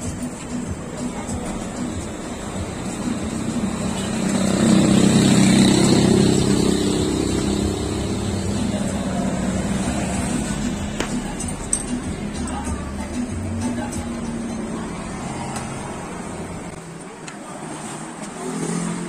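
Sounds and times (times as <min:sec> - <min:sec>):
background noise: 0:00.0 - 0:19.0.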